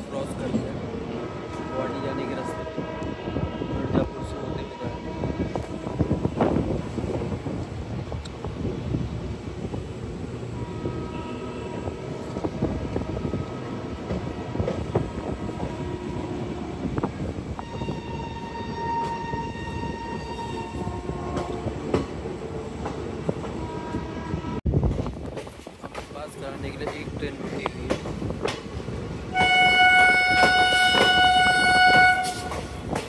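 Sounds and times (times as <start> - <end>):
passenger train rattling: 0.0 - 33.0.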